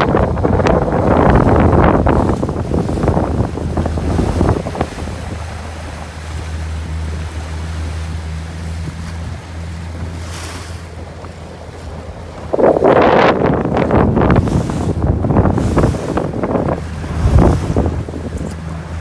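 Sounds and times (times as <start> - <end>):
boat motor humming: 0.0 - 19.0
sea water washing around hull: 0.0 - 19.0
wind buffeting microphone: 0.0 - 19.0.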